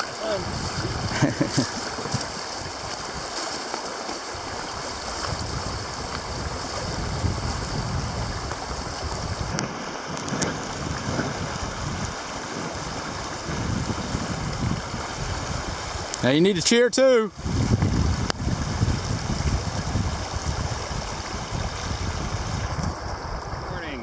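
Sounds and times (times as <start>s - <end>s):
wind buffeting microphone: 0.0s - 16.7s, 17.3s - 24.0s
river rushing over gravel: 0.0s - 24.0s.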